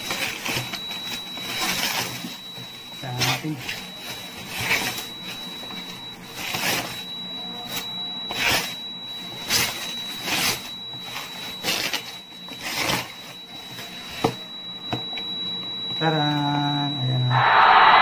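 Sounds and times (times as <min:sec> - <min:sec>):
plastic wrapping crinkling: 0:00.0 - 0:14.6
steady high-pitched tone: 0:00.0 - 0:18.0.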